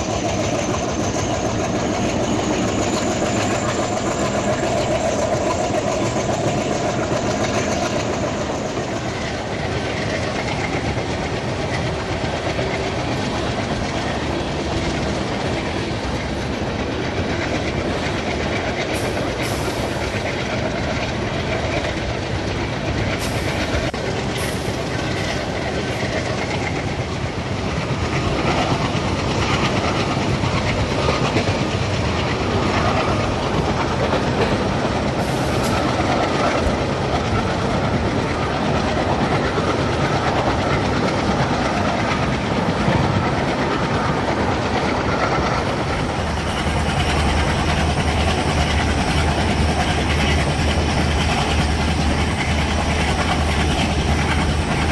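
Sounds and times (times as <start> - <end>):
train rumble: 0.0 - 54.9
train wheels clickety-clack: 0.0 - 54.9.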